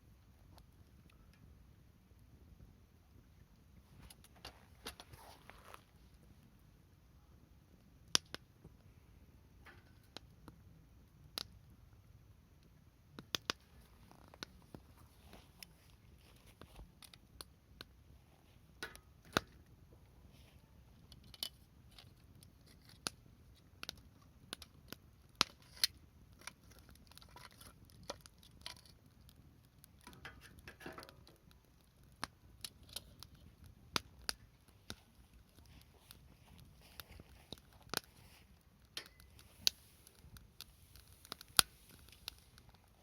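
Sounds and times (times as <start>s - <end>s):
wood campfire crackling and popping: 0.0s - 43.0s.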